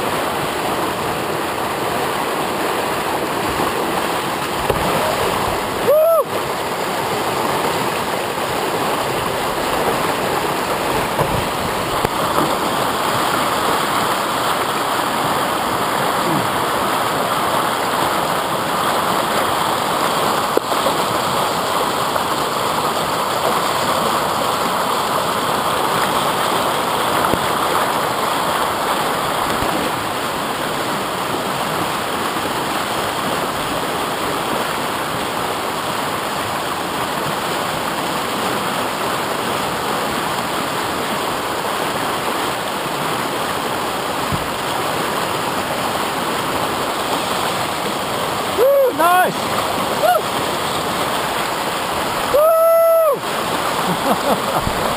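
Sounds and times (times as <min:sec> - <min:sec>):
whitewater rapids rushing: 0:00.0 - 0:54.9.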